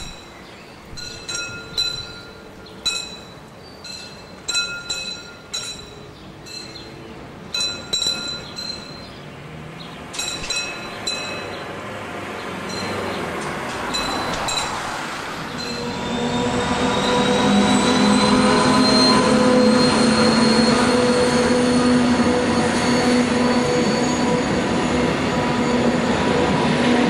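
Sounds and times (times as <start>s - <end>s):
level crossing warning bell: 0.0s - 9.3s, 10.1s - 11.9s, 12.6s - 25.0s
approaching train: 0.0s - 27.0s.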